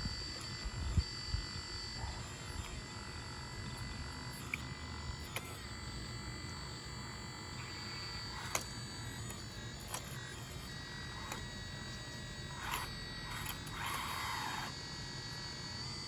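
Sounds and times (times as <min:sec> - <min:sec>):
electric motors and servos whining: 0:00.0 - 0:16.0.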